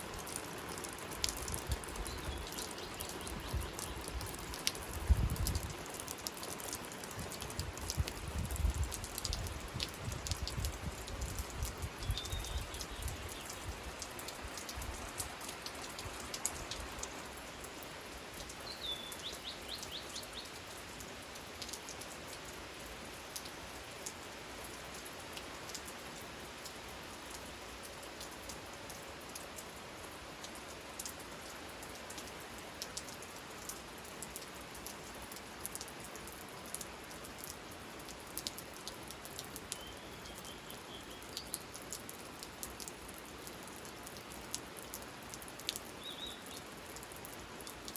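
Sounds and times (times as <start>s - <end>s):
steady rain falling: 0.0s - 47.9s
raindrops ticking: 0.1s - 47.9s.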